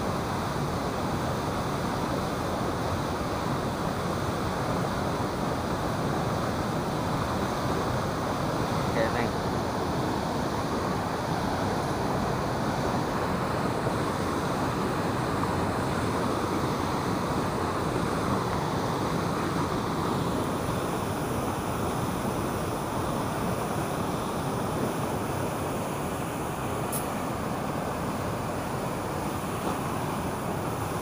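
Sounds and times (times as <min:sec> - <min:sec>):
water rushing below a dam: 0:00.0 - 0:31.0.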